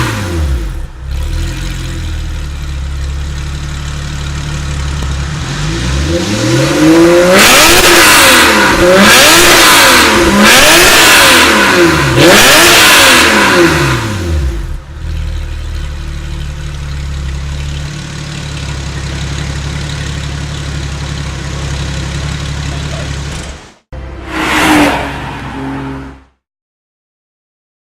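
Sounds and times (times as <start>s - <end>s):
car engine idling: 0.0s - 24.2s
car engine revving: 0.0s - 26.4s.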